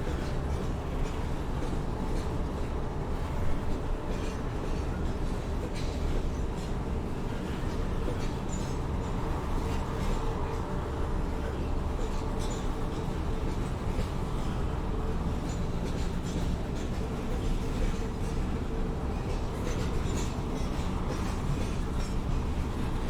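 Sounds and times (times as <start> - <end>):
distant train rumbling on rails: 0.0 - 23.0.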